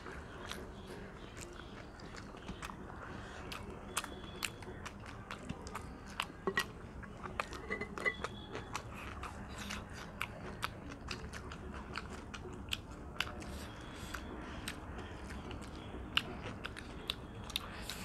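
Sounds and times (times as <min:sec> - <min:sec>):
chewing and mouth smacking: 0:00.0 - 0:18.0.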